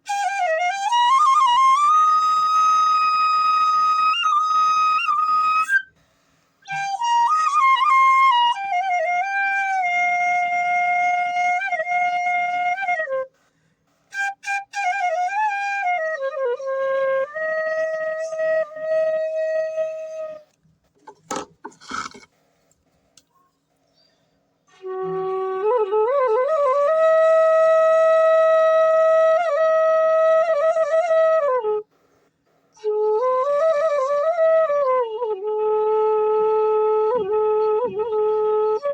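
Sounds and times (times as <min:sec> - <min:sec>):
bamboo flute melody: 0:00.0 - 0:20.6, 0:24.6 - 0:32.0, 0:32.7 - 0:38.9.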